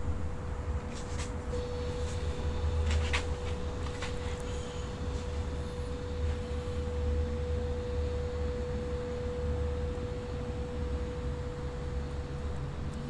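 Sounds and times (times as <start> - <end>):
steady high whine: 0.0 - 13.0.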